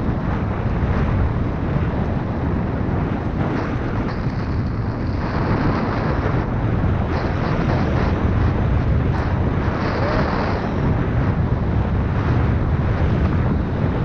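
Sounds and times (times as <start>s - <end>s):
bike tyres rolling over dirt trail: 0.0s - 14.0s
wind buffeting microphone: 0.0s - 14.0s.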